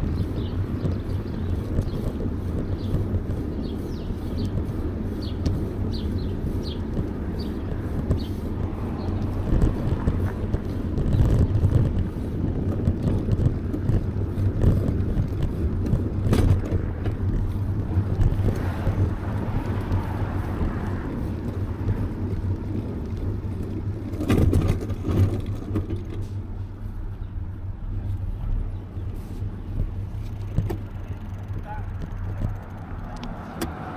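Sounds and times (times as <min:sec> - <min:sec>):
road and traffic rumble: 0:00.0 - 0:33.9.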